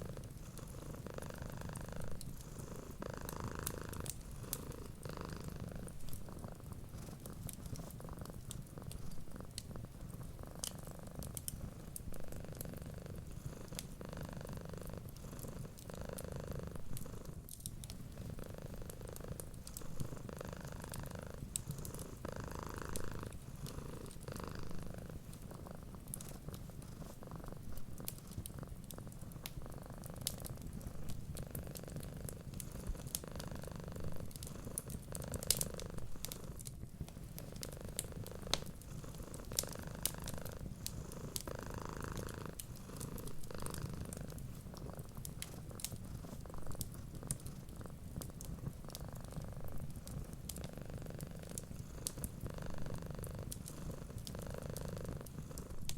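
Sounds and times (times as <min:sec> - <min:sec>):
cat purring: 0:00.0 - 0:55.9
wood fire crackling: 0:03.6 - 0:12.6, 0:16.7 - 0:55.9.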